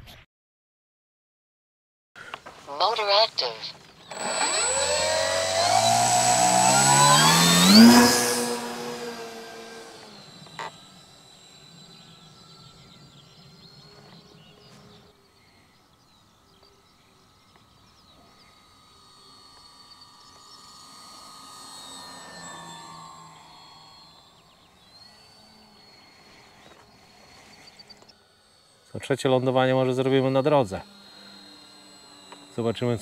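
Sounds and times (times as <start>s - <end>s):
model plane electric motors whining: 2.3s - 33.0s.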